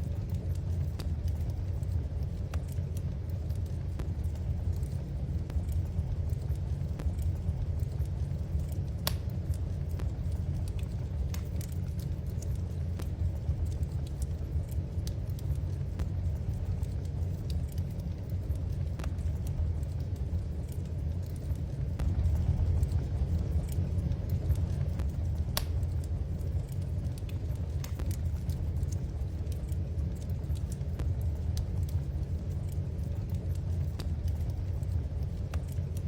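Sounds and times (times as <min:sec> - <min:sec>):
fire pops and snaps: 0:00.0 - 0:36.0
low fire rumble: 0:00.0 - 0:36.0.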